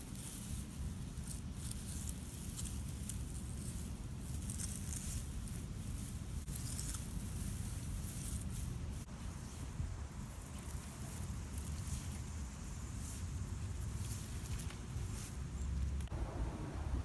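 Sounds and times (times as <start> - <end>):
grass rustling under hand: 0.0 - 16.2
steady low rumble: 0.0 - 17.0.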